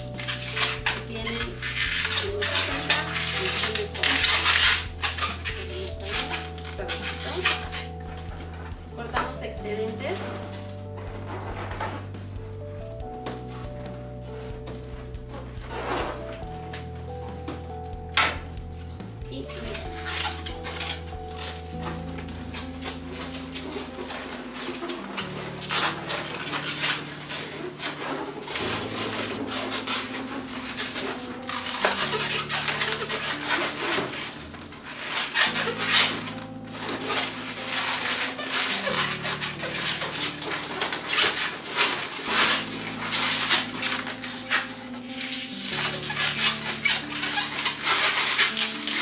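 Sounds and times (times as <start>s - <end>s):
background music with chords: 0.0s - 49.0s
balloons squeaking and rubbing: 0.0s - 49.0s.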